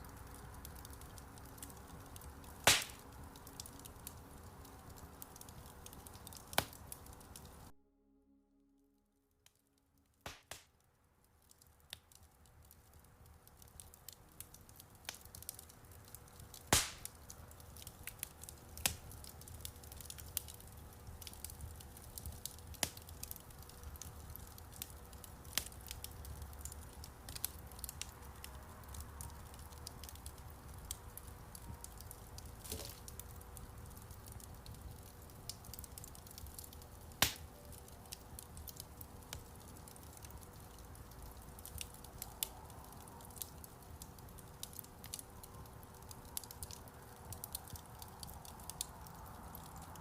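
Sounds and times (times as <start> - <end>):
fire pops and snaps: 0.0 - 7.7, 10.3 - 50.0
low fire rumble: 0.0 - 7.7, 11.2 - 50.0
wood fire crackling: 0.0 - 7.7, 9.4 - 50.0.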